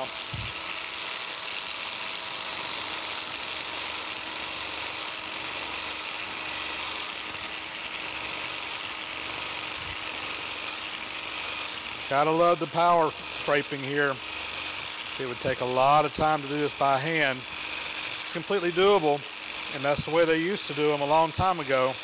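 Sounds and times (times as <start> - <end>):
power scraper cutting metal: 0.0 - 22.0.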